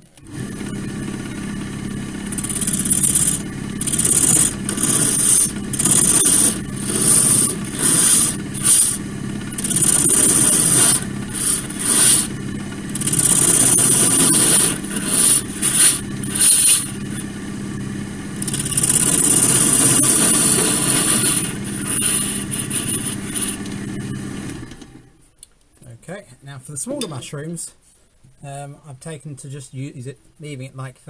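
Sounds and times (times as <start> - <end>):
turning tool cutting wood hissing: 0.0 - 25.1
wood lathe motor hum: 0.0 - 25.2.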